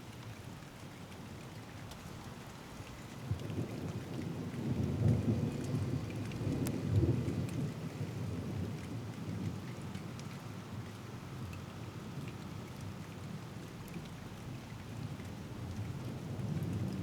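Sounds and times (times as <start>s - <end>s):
steady rain: 0.0s - 17.0s
raindrops ticking near microphone: 0.1s - 17.0s.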